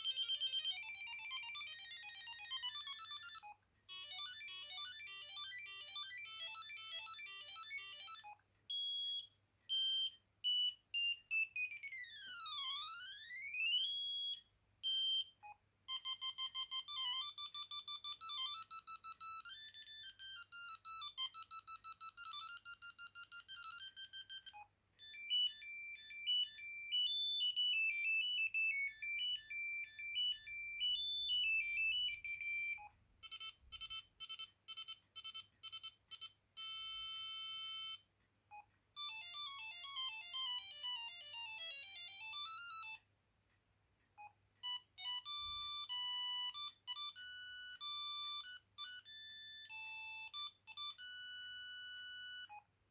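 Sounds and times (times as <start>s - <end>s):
electronic phone ringtones: 0.0s - 43.0s, 44.2s - 52.7s.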